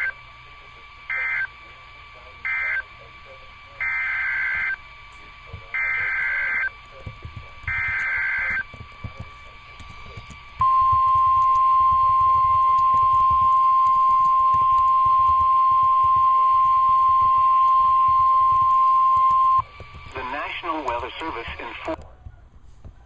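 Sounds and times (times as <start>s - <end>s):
steady warning alarm tone: 0.0s - 0.2s, 1.0s - 1.6s, 2.4s - 3.1s, 3.8s - 22.0s.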